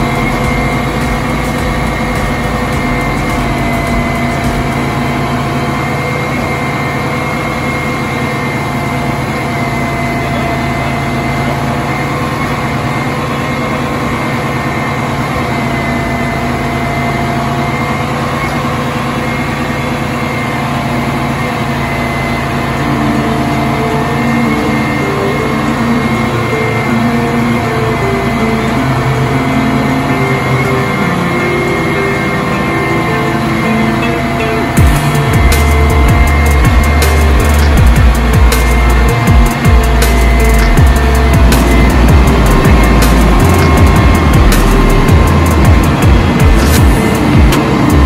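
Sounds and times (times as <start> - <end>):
pulsing tone: 0.0 - 48.0
pumps whining: 0.0 - 48.0
truck engine low rumble: 0.0 - 48.0.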